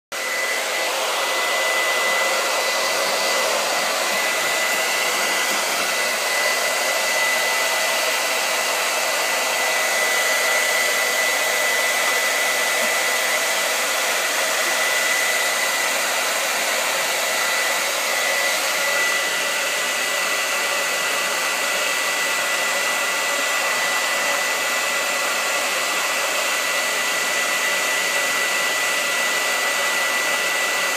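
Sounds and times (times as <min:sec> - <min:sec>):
hair dryer running: 0:00.1 - 0:30.9.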